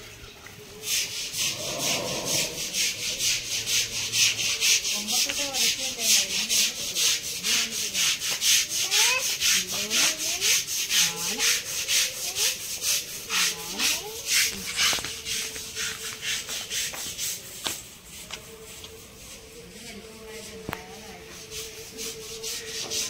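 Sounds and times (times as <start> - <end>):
scrubber rasping on wet hide: 0.8 - 20.6, 21.2 - 23.0.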